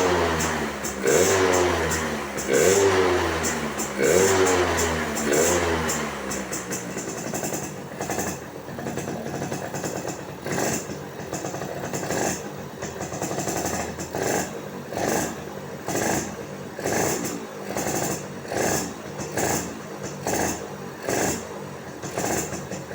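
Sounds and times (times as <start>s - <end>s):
two-stroke engine revving: 0.0s - 22.9s.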